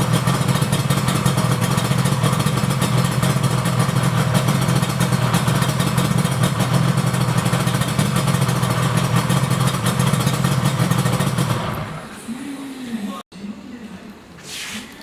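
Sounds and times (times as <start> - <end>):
two-stroke engine idling: 0.0 - 12.2.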